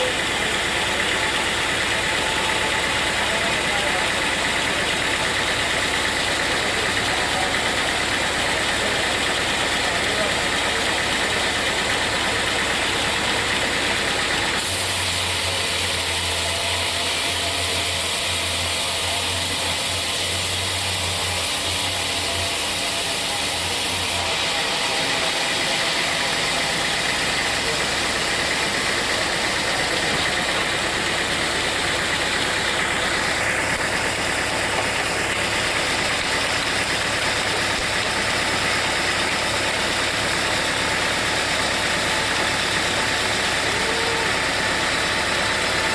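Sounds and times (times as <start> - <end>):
sawmill machinery droning: 0.0 - 45.9.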